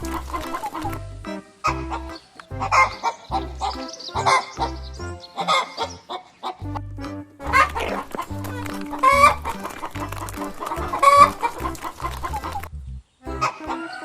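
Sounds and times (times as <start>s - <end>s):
background music with bass line: 0.0s - 14.0s
chicken clucking and squawking: 0.2s - 6.6s, 7.5s - 14.0s.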